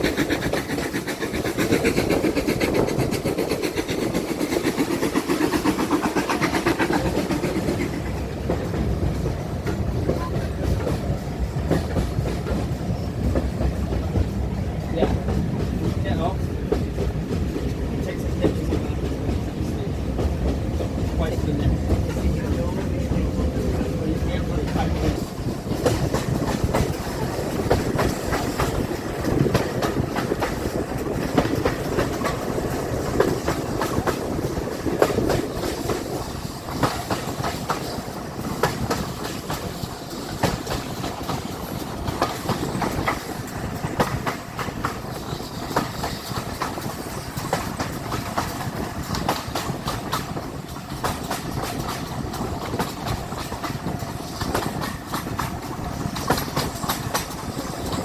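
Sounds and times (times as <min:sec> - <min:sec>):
train rumble: 0:00.0 - 0:58.0
train wheels clicking on rail joints: 0:00.0 - 0:58.0.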